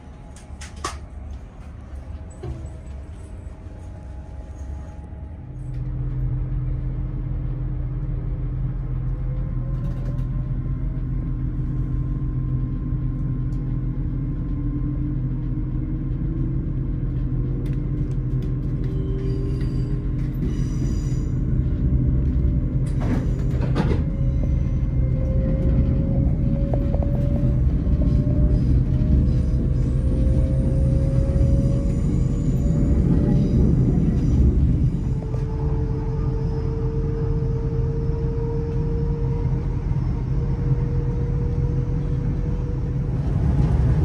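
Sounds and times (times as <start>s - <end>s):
train low hum: 0.0s - 44.0s.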